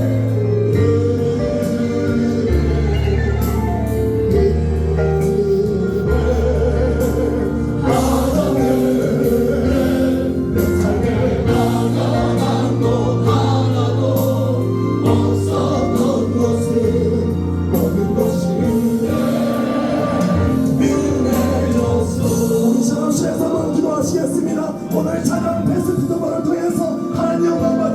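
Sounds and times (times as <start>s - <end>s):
group singing praise song: 0.0s - 25.5s
instrumental backing: 0.0s - 27.9s.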